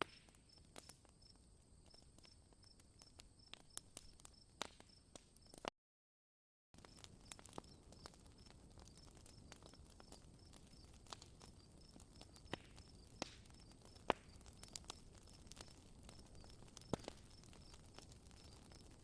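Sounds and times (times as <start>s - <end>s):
campfire crackling: 0.0s - 5.7s, 6.8s - 19.0s.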